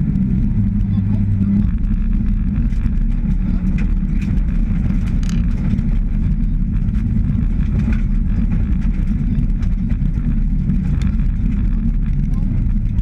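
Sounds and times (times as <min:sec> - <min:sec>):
car engine running: 0:00.0 - 0:13.0
tyre and gravel noise: 0:00.0 - 0:13.0
stones ticking: 0:00.2 - 0:13.0.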